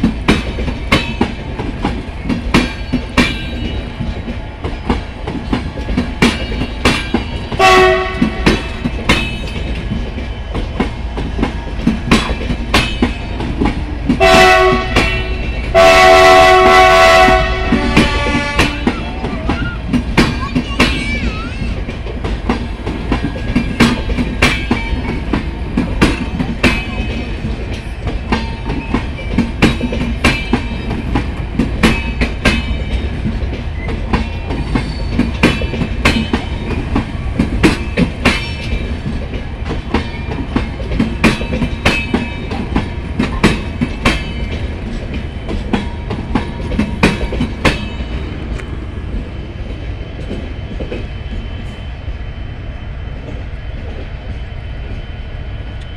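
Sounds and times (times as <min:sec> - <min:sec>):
wheels clacking over rail joints: 0:00.0 - 0:51.4
train coaches rumbling past: 0:00.0 - 0:55.9.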